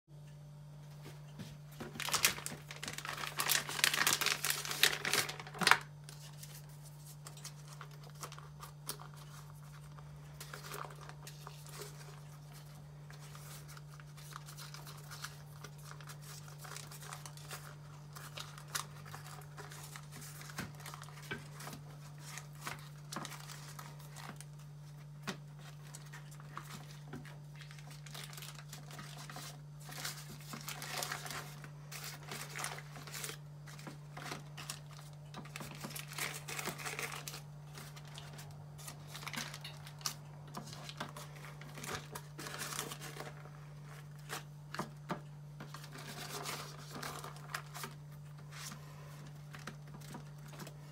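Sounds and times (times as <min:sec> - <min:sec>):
baking paper rustling and tapping: 0:00.9 - 0:50.9
wrapper crinkling and tearing: 0:01.8 - 0:50.9.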